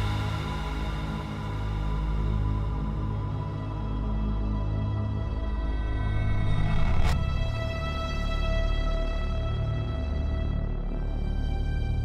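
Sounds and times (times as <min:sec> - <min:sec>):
low droning synth music: 0:00.0 - 0:12.0.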